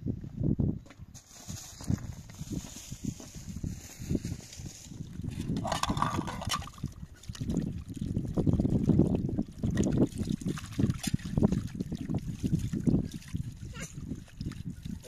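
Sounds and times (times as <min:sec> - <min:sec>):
water splashing and trickling: 0:02.4 - 0:15.0.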